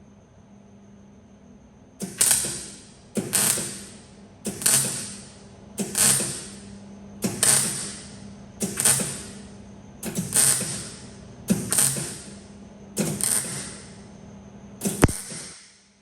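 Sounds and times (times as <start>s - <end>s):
faint steady hum: 0.0s - 16.0s
tool hissing bursts with click: 2.0s - 14.1s, 14.8s - 15.9s.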